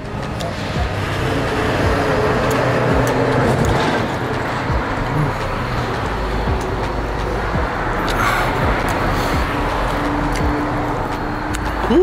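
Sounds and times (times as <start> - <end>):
vehicle driving past: 0.1 - 11.9.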